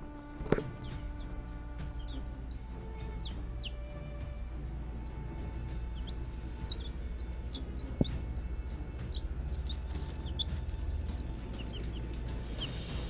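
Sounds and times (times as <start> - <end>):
baby chicks peeping: 0.0 - 13.0
steady low hum: 0.0 - 13.0.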